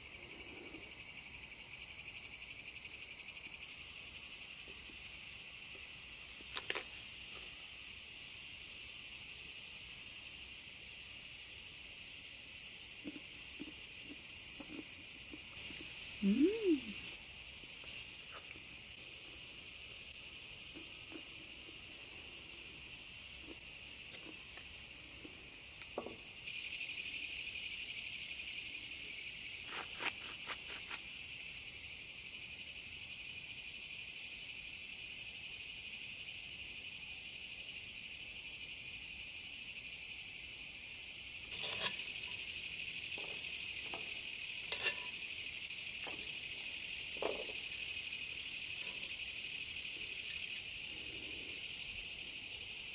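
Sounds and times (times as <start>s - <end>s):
night insects chirring: 0.0s - 52.9s.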